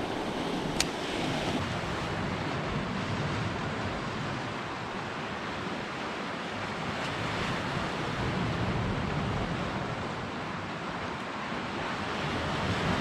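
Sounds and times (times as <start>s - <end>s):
gusty wind on microphone: 0.0s - 13.0s
sea surf washing on shore: 0.0s - 13.0s.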